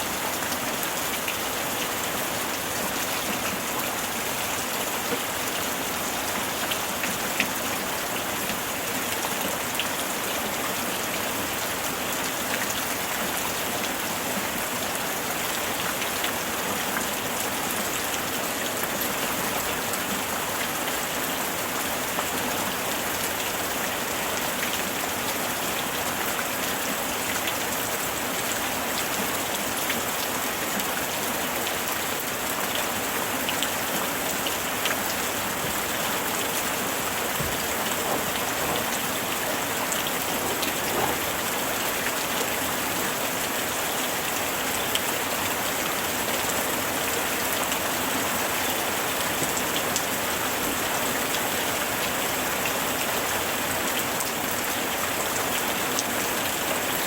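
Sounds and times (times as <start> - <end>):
steady rain hiss: 0.0 - 57.0
raindrops ticking on a surface: 2.8 - 56.6.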